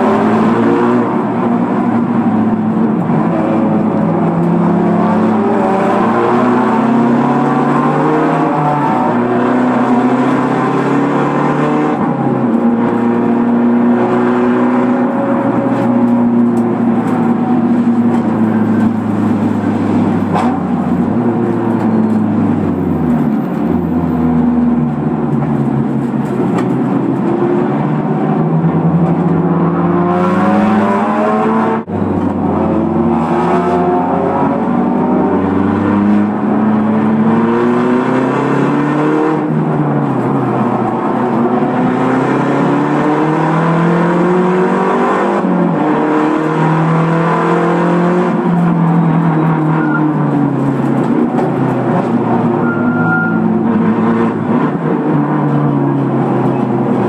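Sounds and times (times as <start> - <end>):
race car engine revving: 0.0 - 22.7, 24.4 - 57.0.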